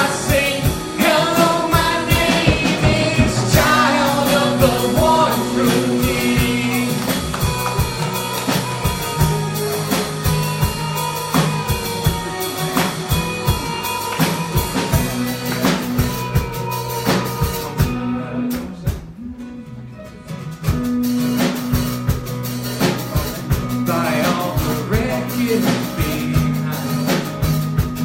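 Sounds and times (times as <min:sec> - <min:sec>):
drum kit beat: 0:00.0 - 0:19.2, 0:20.5 - 0:28.0
bass and guitar chords: 0:00.0 - 0:28.0.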